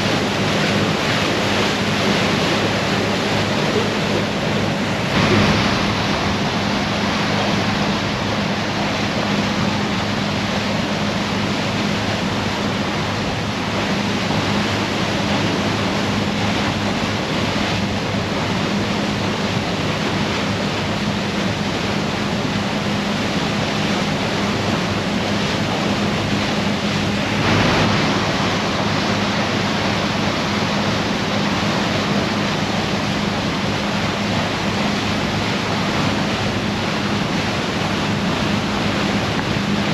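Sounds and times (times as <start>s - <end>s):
low engine hum: 0.0s - 39.9s
water rushing along ship hull: 0.0s - 39.9s
wind: 0.0s - 39.9s.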